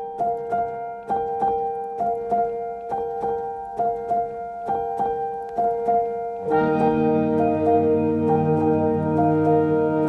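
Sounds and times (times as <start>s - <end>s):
keyboard playing paired notes: 0.0s - 10.0s
steady held tone: 0.0s - 10.0s.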